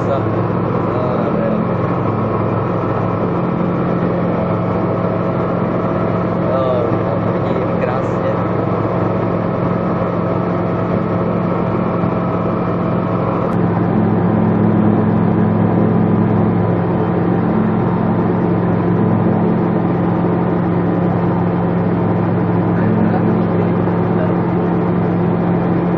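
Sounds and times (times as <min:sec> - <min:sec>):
aircraft engine droning: 0:00.0 - 0:25.9.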